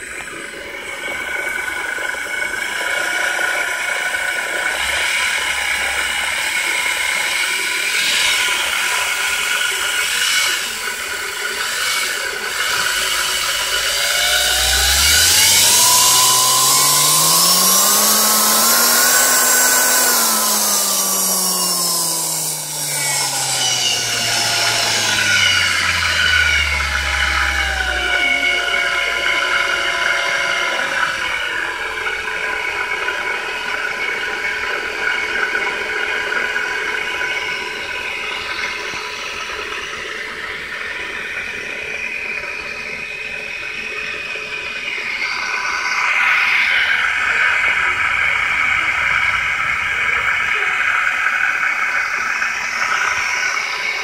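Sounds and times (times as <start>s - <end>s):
electric motor high whine: 0.0s - 54.0s
rough mechanical whir: 0.0s - 54.0s.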